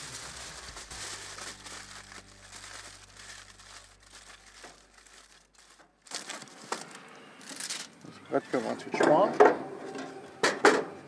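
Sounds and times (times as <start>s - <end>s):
aluminium foil crinkling: 0.0s - 9.0s.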